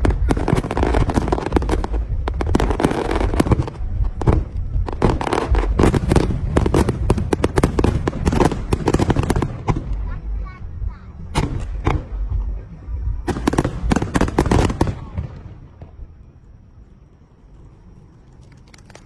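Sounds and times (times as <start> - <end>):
continuous rumble: 0.0 - 19.0
fireworks bangs and crackles: 0.0 - 19.0.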